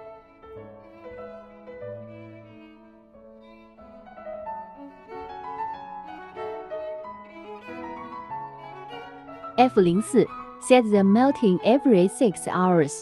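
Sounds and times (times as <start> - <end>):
bowed strings: 0.0 - 12.8
piano: 0.0 - 13.0.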